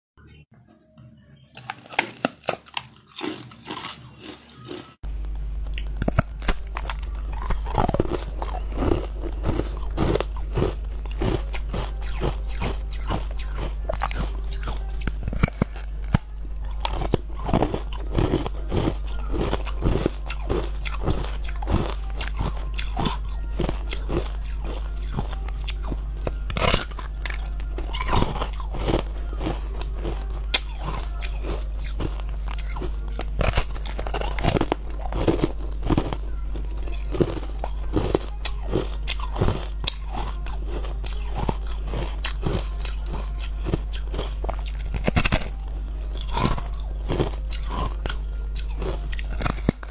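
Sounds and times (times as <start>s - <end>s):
steady low hum: 2.4s - 49.9s.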